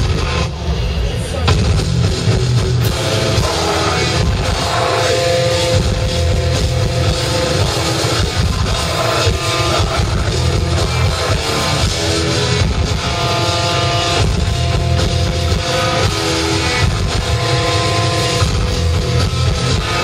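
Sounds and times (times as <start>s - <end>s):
distorted electric guitars: 0.0s - 20.0s
pounding drum kit: 0.0s - 20.0s.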